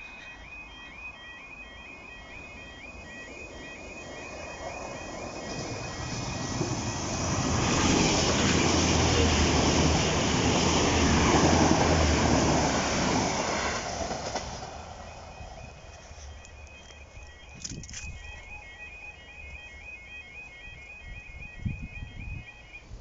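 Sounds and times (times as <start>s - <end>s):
train wheels on rails: 0.0s - 23.0s
warbling crossing alarm: 0.0s - 23.0s.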